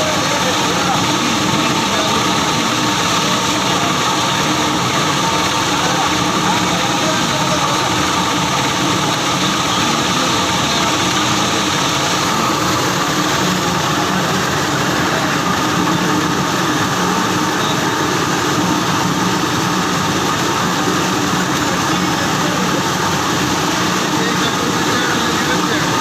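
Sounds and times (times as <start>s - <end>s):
washing machine mechanical drone: 0.0s - 26.0s.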